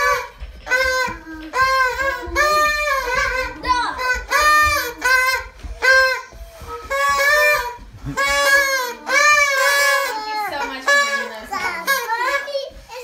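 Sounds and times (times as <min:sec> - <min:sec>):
party blowers honking: 0:00.0 - 0:13.0.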